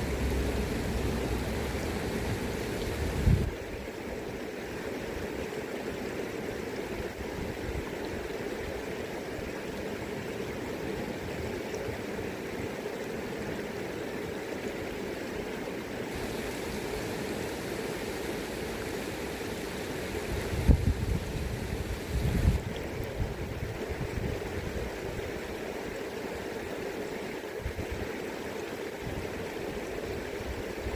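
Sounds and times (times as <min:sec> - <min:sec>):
river water flowing: 0:00.0 - 0:30.9.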